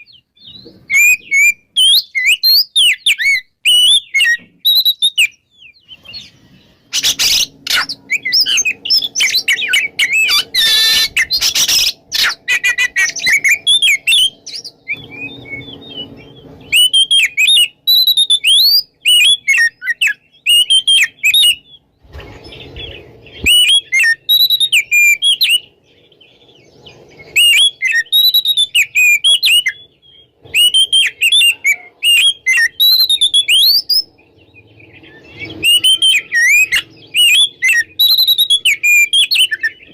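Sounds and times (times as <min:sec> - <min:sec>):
bird singing whistles and chirps: 0:00.0 - 0:39.9
harsh scratchy bird notes: 0:05.9 - 0:39.9.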